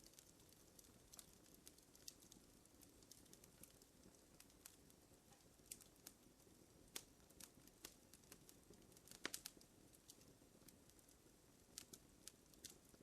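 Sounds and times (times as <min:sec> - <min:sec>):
low hiss: 0:00.0 - 0:13.0
wood fire crackling and popping: 0:00.0 - 0:13.0.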